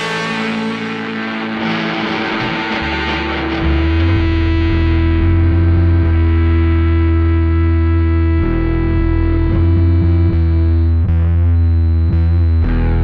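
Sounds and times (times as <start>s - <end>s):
distorted electric guitar: 0.0s - 13.0s
loud low bass note: 0.0s - 13.0s.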